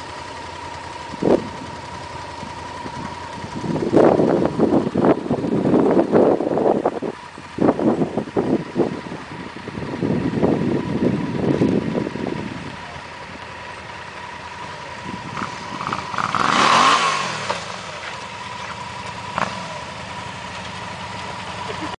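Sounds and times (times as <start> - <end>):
motorcycle engine revving: 0.0 - 21.9
motorcycle engine running at low revs: 0.0 - 21.9
motorcycle passing close: 1.1 - 21.9.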